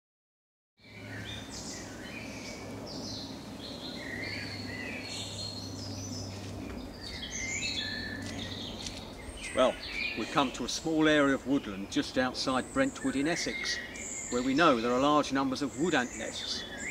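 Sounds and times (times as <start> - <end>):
birds chirping and warbling: 0.8 - 16.9
steady low hum: 0.8 - 16.9.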